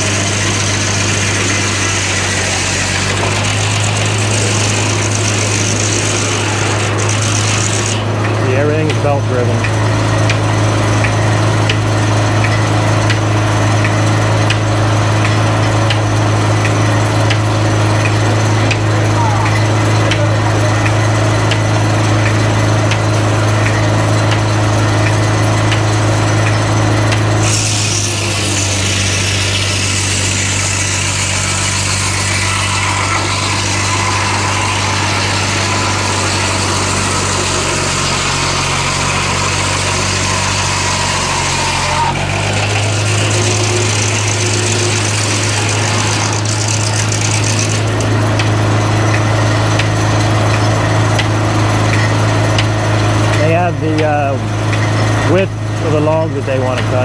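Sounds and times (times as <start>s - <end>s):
circular saw cutting log: 0.0s - 57.0s
engine humming: 0.0s - 57.0s.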